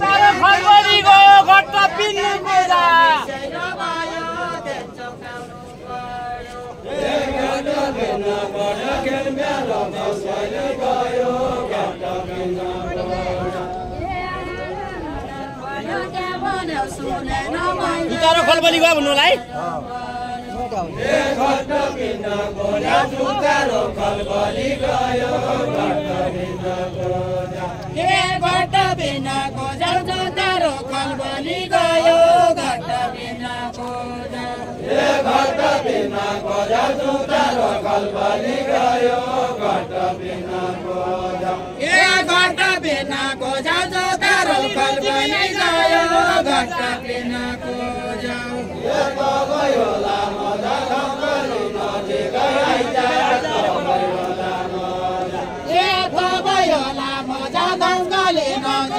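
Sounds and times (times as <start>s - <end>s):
group singing a folk song: 0.0s - 58.9s.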